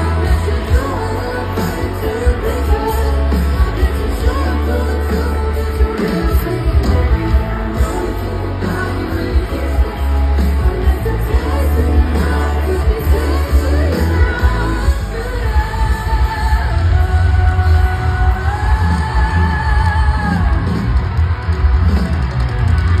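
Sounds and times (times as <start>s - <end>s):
woman singing: 0.0s - 21.0s
pop-rock band over loudspeakers: 0.0s - 23.0s.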